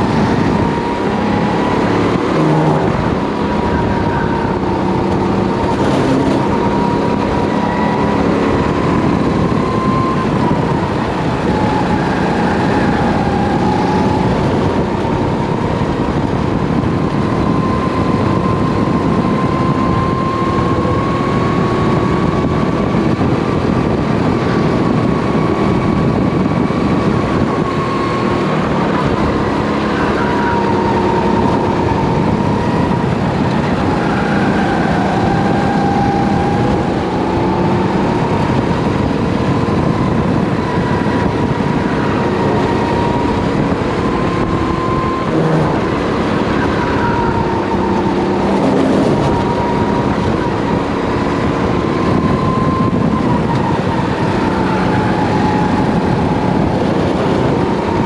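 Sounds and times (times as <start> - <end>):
race kart engine running hard: 0.0 - 58.0.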